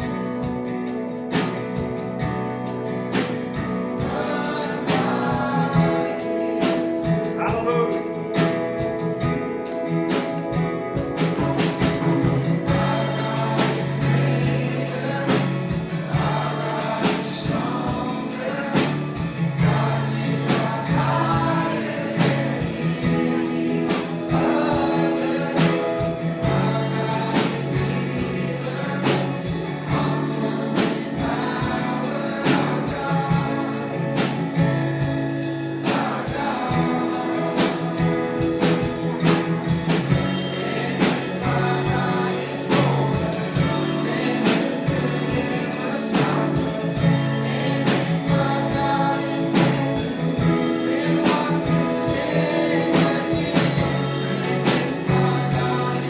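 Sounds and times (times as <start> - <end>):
congregation singing gospel song: 0.0 - 56.0
instrumental backing with steady beat: 0.0 - 56.0.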